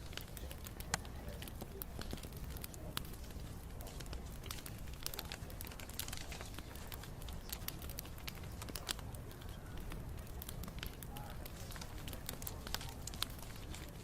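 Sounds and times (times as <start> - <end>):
bonfire snaps and pops: 0.0 - 14.0
fire low rumble: 0.0 - 14.0.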